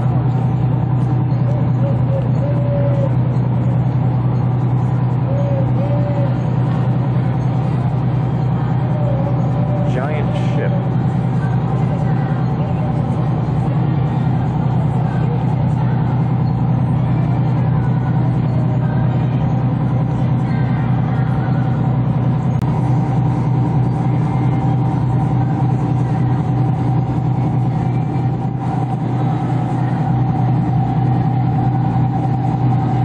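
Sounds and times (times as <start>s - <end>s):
boat engines droning: 0.0s - 33.0s.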